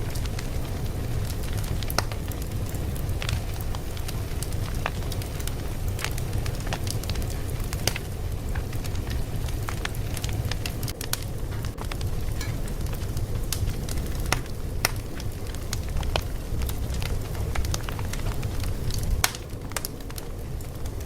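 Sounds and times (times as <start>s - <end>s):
fire crackling: 0.0s - 21.0s
low rumble of burning: 0.0s - 21.0s.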